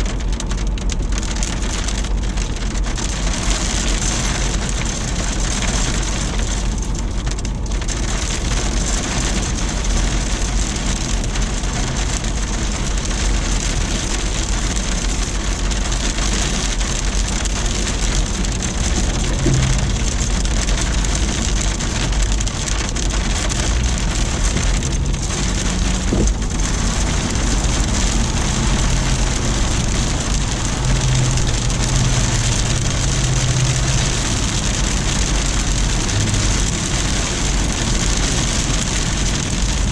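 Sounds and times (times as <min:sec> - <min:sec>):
heavy rain and sleet: 0:00.0 - 0:39.9.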